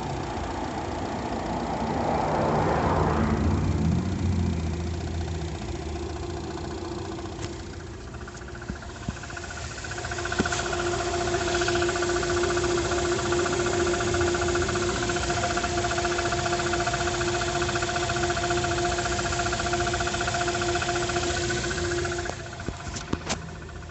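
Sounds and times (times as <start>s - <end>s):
car engine running with whine: 0.0s - 23.9s
fast even engine knocking: 0.0s - 23.9s.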